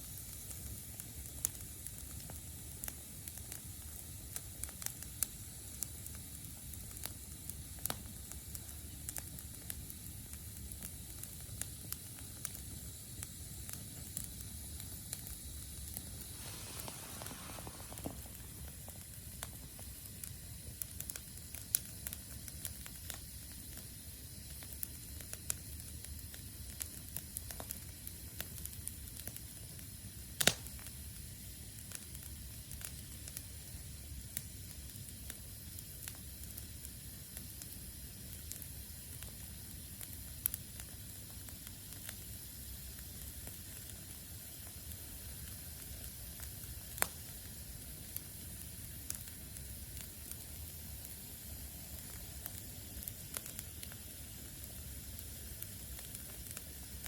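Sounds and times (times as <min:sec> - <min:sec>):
damp wood sizzling in campfire: 0:00.0 - 0:57.0
fire crackles and pops: 0:00.0 - 0:57.0.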